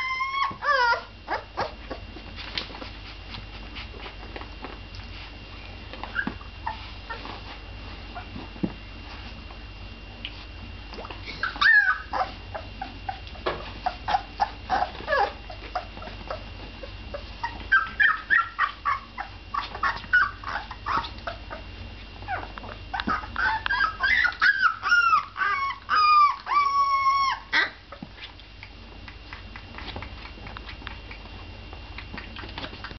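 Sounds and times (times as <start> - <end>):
puppies whimpering and squeaking: 0.0 - 4.3, 6.0 - 9.3, 11.3 - 32.9.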